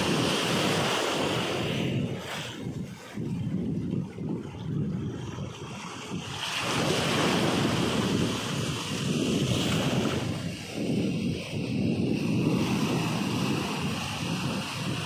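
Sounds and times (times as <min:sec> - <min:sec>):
sea surf washing in: 0:00.0 - 0:15.0
wave breaking: 0:00.0 - 0:15.0
wind buffeting microphone: 0:00.0 - 0:15.0.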